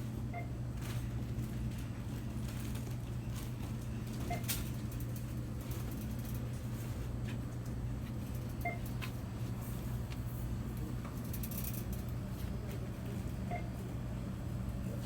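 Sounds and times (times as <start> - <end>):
ventilation hum: 0.0 - 15.0.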